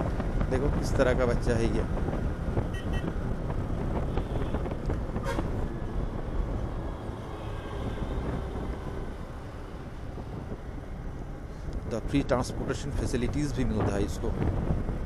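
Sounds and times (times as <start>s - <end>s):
motorcycle engine and road rumble: 0.0s - 15.0s
wind noise on microphone: 0.0s - 15.0s.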